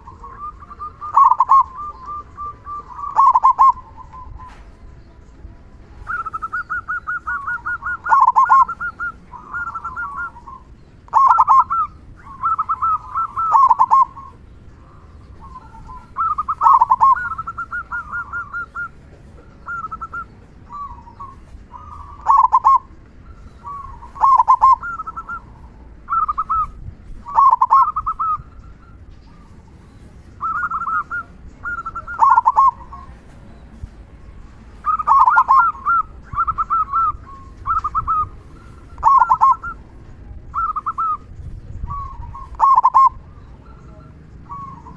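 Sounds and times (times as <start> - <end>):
dove cooing: 0.0 - 5.0, 5.9 - 33.7, 34.3 - 44.9.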